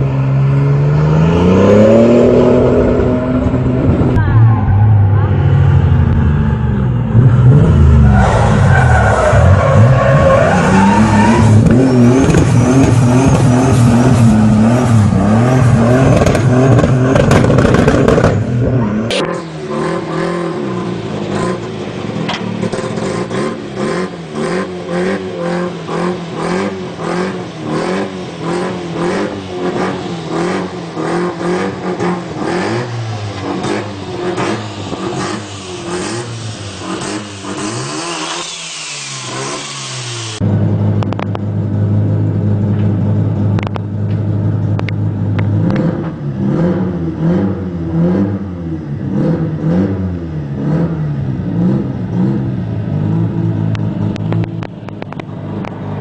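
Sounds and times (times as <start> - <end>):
car engine revving hard: 0.0 - 4.2, 7.0 - 40.5, 45.6 - 54.3.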